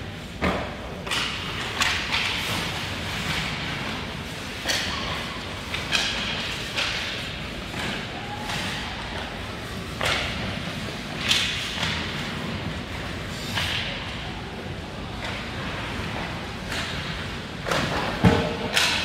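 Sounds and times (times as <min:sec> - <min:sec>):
hockey sticks and pucks clacking: 0:00.2 - 0:19.0.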